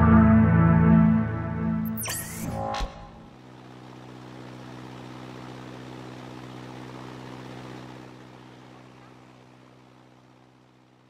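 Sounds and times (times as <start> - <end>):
airship propeller engine drone: 0.0 - 11.0.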